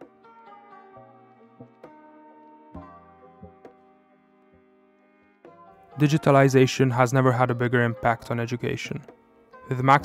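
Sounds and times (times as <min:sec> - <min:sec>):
music with ringing notes: 0:00.0 - 0:10.0.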